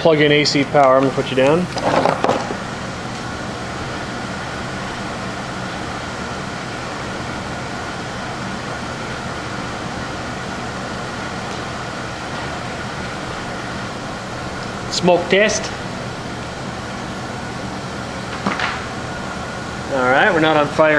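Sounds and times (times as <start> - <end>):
machinery whirring hum: 0.0 - 20.9.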